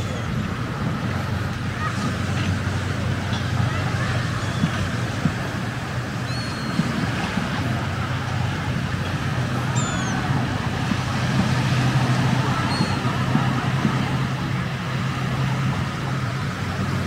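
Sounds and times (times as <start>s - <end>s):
low engine hum: 0.0s - 17.0s
surf washing: 0.0s - 17.0s.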